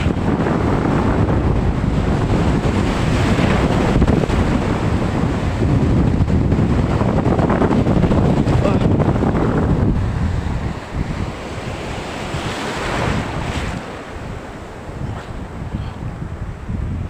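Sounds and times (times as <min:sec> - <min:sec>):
waves washing in: 0:00.0 - 0:17.0
wind buffeting microphone: 0:00.0 - 0:17.0.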